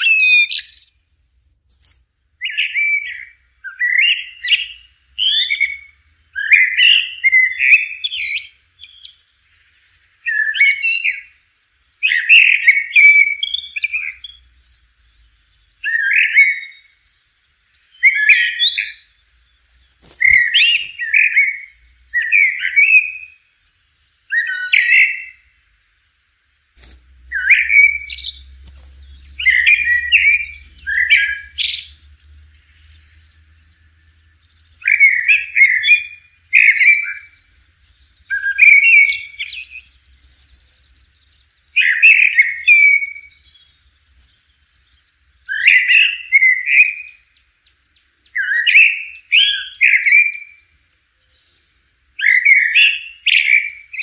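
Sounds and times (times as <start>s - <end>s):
blackbird singing: 0.0s - 1.0s, 2.2s - 54.0s.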